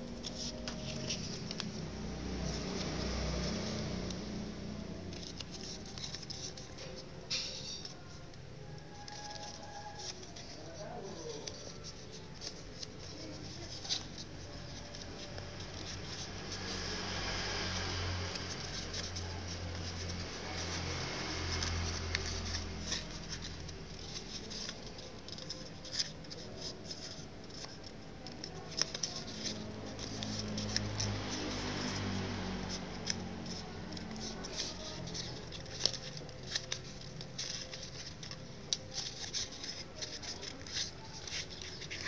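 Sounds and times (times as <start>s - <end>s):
paper crinkling and rustling: 0.0s - 42.0s.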